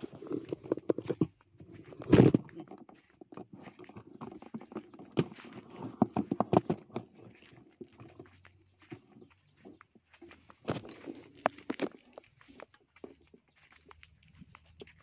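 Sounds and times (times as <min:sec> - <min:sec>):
rustling at microphone: 0:00.0 - 0:15.0.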